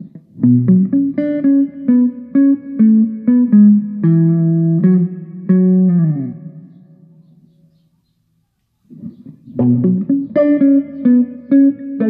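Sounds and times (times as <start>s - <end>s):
electric guitar with wah filter: 0.0s - 7.8s, 8.8s - 12.0s.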